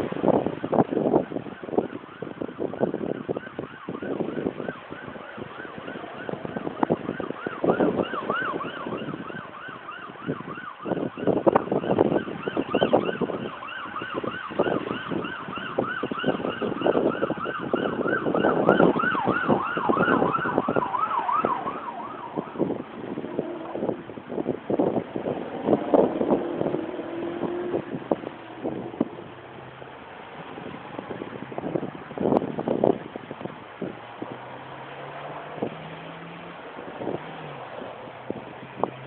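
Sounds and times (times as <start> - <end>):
wind buffeting microphone: 0.0 - 39.0
siren yelping: 0.5 - 31.8.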